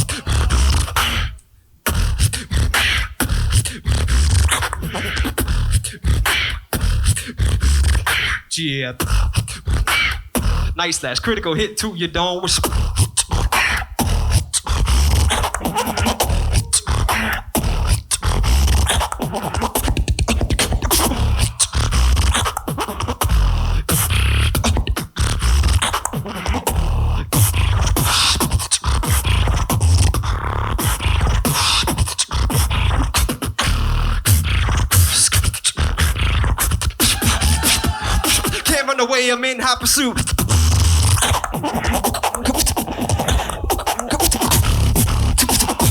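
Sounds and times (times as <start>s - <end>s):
beatboxing through a microphone: 0.0s - 45.9s.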